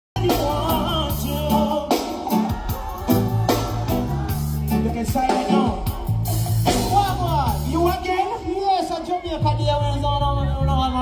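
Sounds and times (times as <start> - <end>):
live reggae band: 0.0 - 11.0.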